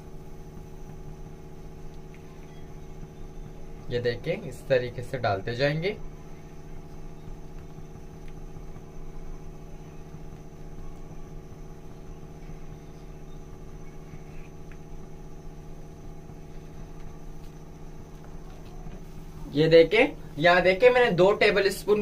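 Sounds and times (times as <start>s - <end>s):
low mechanical motor hum: 0.0s - 22.0s.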